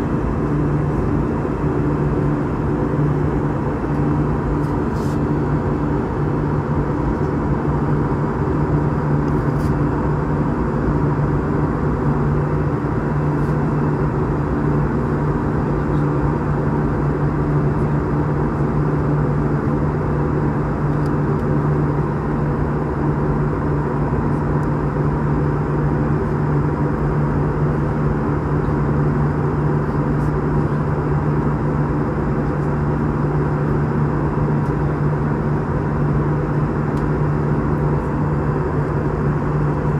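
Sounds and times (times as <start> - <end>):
jet engine cabin drone: 0.0 - 39.9
steady low hum: 0.0 - 39.9.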